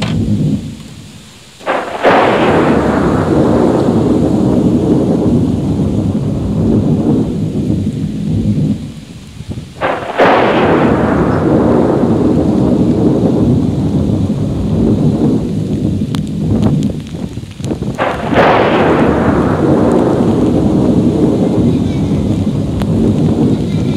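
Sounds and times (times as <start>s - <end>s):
thunder clap: 0.0s - 23.9s
thunder rumbling: 0.0s - 23.9s.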